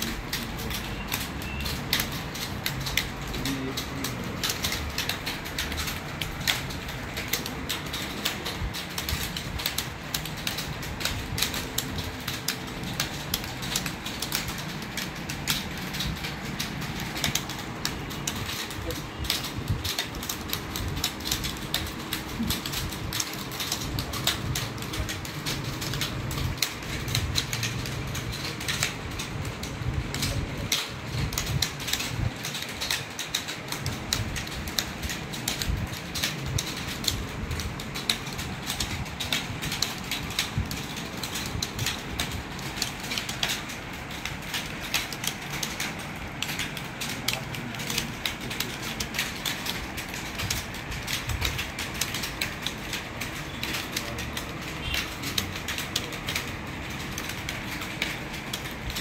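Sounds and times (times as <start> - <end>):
keyboard typing clatter: 0.0 - 59.0.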